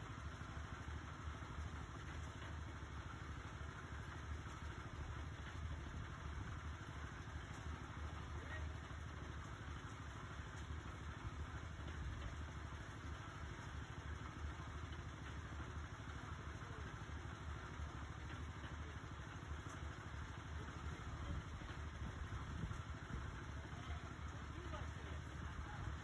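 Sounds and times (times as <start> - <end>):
small gasoline engine running: 0.0 - 26.0.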